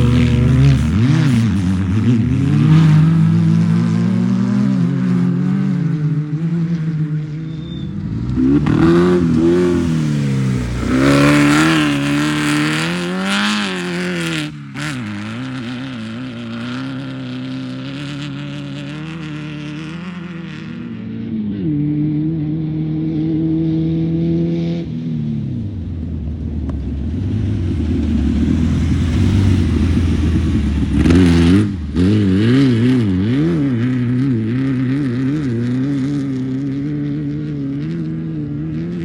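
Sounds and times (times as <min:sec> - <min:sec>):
race vehicle engines revving: 0:00.0 - 0:39.0.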